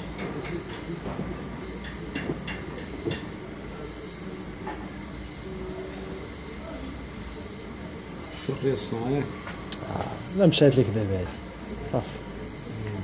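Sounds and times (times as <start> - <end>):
welding torch flame hissing: 0.0 - 13.0.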